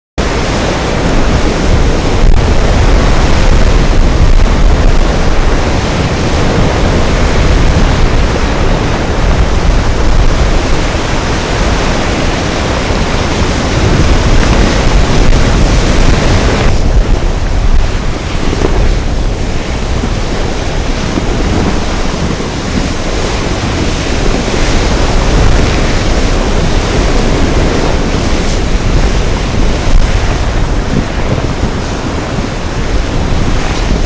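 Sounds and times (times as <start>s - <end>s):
ocean waves rushing: 0.2s - 34.0s
wind buffeting microphone: 0.2s - 34.0s.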